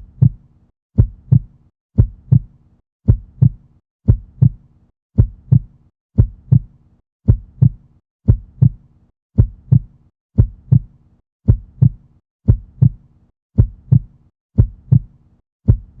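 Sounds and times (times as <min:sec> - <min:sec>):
heartbeat lub-dub: 0:01.0 - 0:04.6, 0:05.2 - 0:08.8, 0:09.4 - 0:13.0, 0:13.6 - 0:16.0.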